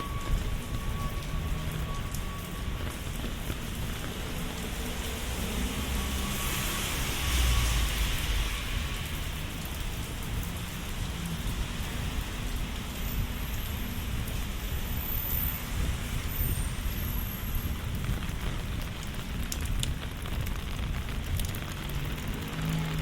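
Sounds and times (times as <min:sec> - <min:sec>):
rain falling on street: 0:00.0 - 0:23.0.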